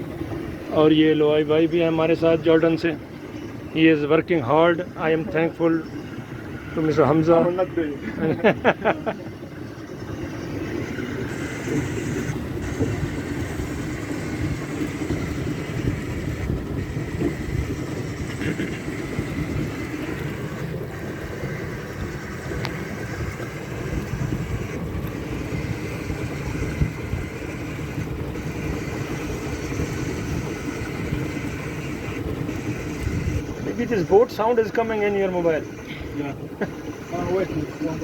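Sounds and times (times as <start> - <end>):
motorboat engine running: 0.0 - 38.0.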